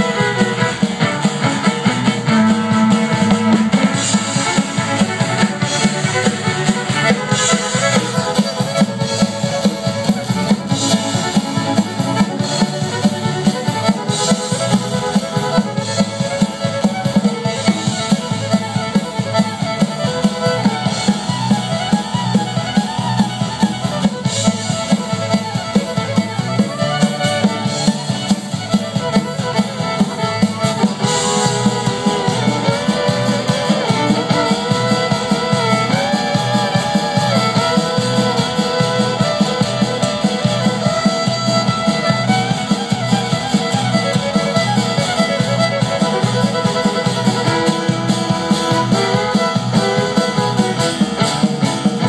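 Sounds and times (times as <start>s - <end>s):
drum kit beat: 0.0s - 52.0s
fiddle-like melody: 0.0s - 52.0s
guitar: 0.0s - 52.0s.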